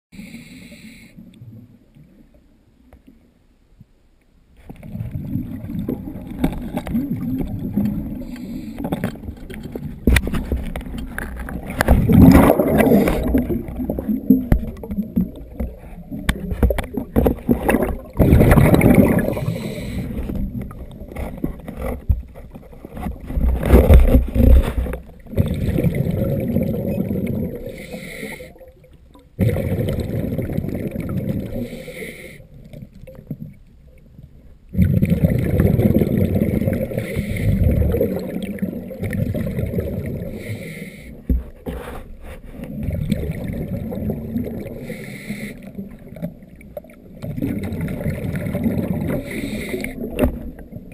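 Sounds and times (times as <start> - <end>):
underwater bubbles gurgling: 4.6 - 50.9.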